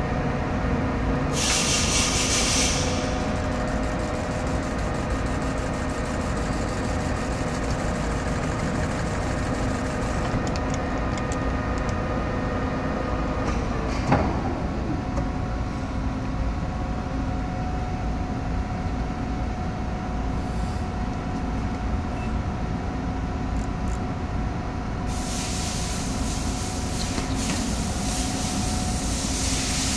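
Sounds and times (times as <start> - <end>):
machine hum with steady tones: 0.0 - 29.9.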